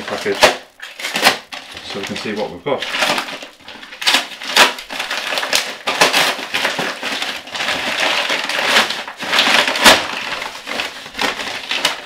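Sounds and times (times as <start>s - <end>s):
paper wrapping tearing and crinkling: 0.0s - 12.0s.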